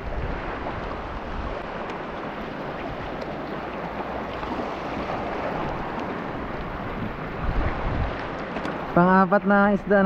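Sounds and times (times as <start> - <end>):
water washing: 0.0 - 9.3
wind: 0.0 - 10.0.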